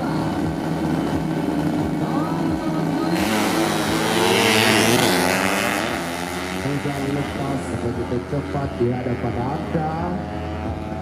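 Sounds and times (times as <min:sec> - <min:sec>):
motorcycle engines revving: 0:00.0 - 0:11.0
motorcycles racing past: 0:00.0 - 0:11.0.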